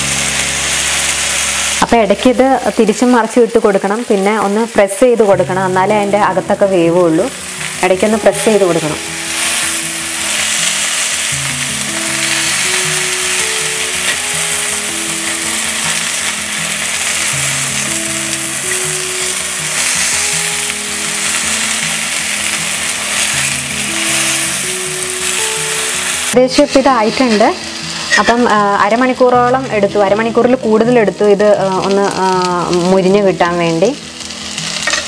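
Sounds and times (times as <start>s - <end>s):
chicken sizzling on grill pan: 0.0s - 4.8s, 5.6s - 35.0s
background music: 0.0s - 35.0s.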